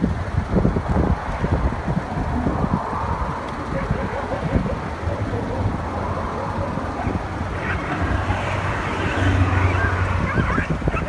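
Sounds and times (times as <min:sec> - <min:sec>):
vehicle engine running: 0:00.0 - 0:11.0
wind noise on microphone: 0:00.0 - 0:11.0.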